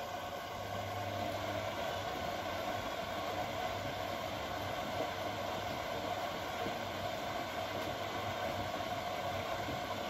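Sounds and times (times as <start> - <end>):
washing machine humming and whirring: 0.0 - 10.0.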